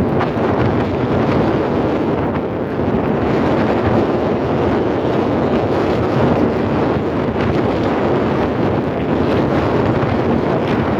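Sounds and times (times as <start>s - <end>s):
churning surf: 0.0s - 10.9s
wind buffeting microphone: 0.0s - 10.9s.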